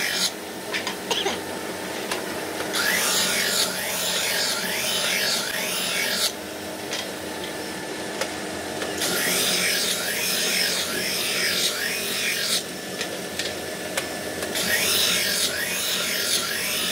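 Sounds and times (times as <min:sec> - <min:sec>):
steady machine hum: 0:00.0 - 0:16.9.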